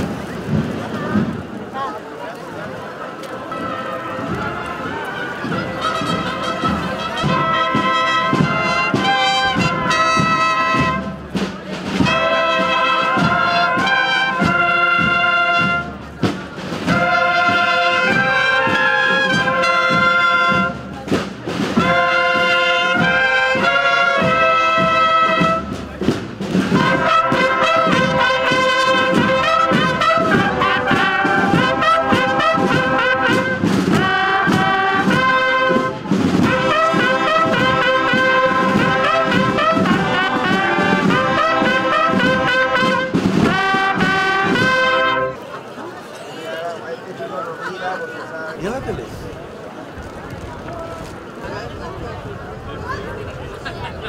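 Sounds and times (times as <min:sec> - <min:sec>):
marching brass band playing: 0:00.0 - 0:45.8.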